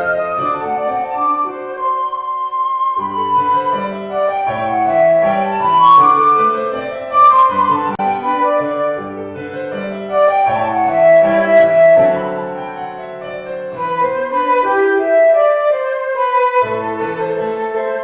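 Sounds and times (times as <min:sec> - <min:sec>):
flute melody: 0:00.0 - 0:18.0
piano chords: 0:00.0 - 0:18.0.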